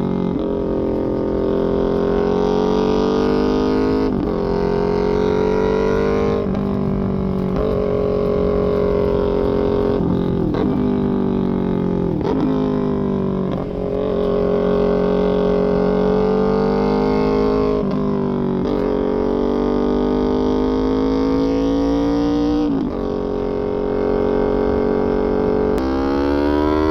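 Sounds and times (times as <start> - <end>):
motorcycle engine droning: 0.0 - 26.9.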